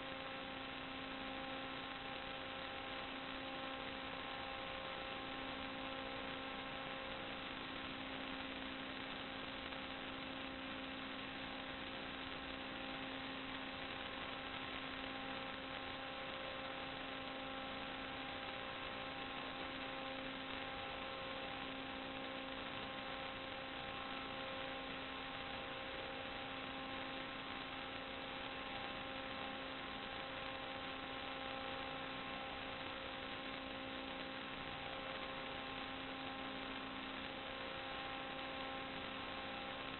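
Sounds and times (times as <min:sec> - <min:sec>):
constant hiss: 0:00.0 - 0:39.9
electronic hum: 0:00.0 - 0:39.9.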